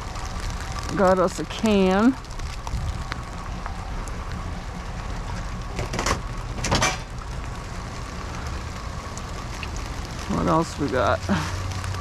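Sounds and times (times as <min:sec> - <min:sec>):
steady rain: 0:00.0 - 0:12.0
trash rustling and crunching: 0:00.0 - 0:12.0.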